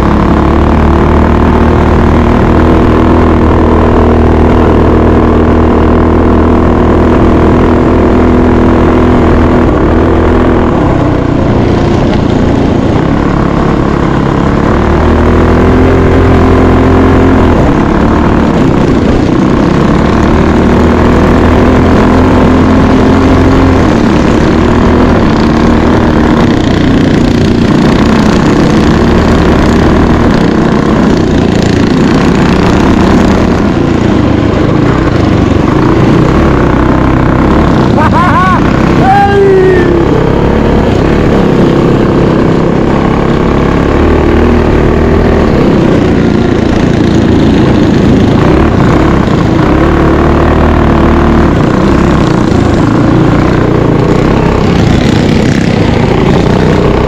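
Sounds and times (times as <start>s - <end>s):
mini bike engine revving: 0.0s - 57.0s.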